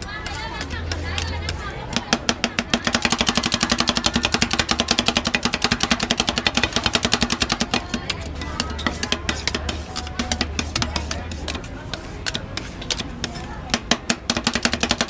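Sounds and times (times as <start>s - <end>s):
metal spatulas chopping on steel: 0.0s - 15.0s.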